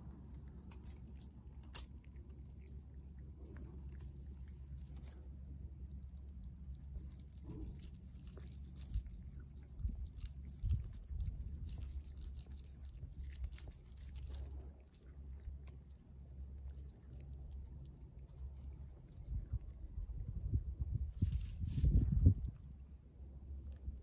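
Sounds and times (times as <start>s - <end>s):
cat chewing raw fish: 0.0s - 24.0s
steady low rumble: 0.0s - 24.0s.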